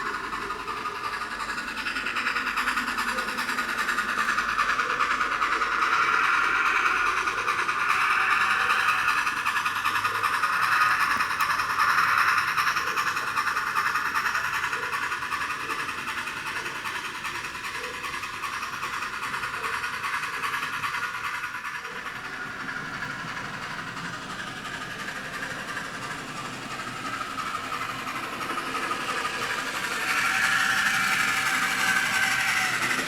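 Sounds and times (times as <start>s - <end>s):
model train whirring on track: 0.0s - 33.0s.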